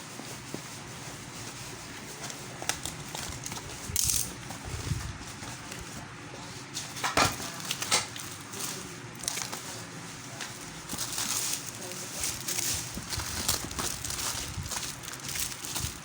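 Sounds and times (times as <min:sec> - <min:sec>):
packaging rustling: 0:00.0 - 0:06.1, 0:07.4 - 0:16.0.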